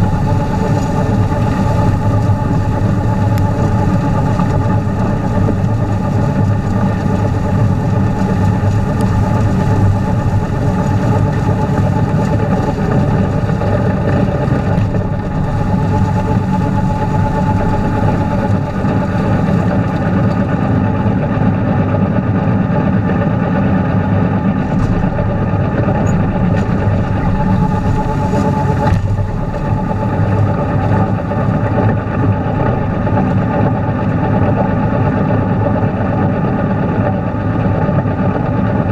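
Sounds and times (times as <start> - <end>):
tractor engine running: 0.0 - 38.8.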